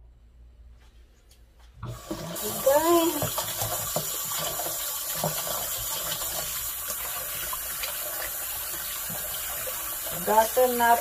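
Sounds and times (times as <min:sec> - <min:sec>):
tap running into water: 0:01.8 - 0:11.0.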